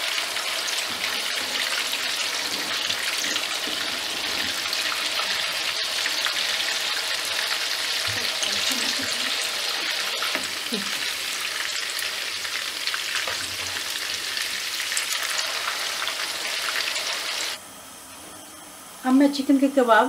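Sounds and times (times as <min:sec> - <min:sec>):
patties sizzling in hot oil: 0:00.0 - 0:20.0.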